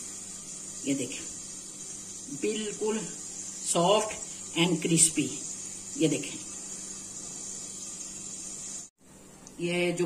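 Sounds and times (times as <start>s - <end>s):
high-pitched hiss: 0.0s - 9.0s.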